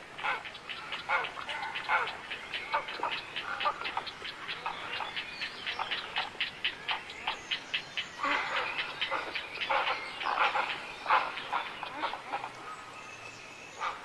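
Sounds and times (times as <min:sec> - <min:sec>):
chatter of bird calls: 0:00.0 - 0:13.0, 0:13.7 - 0:14.0.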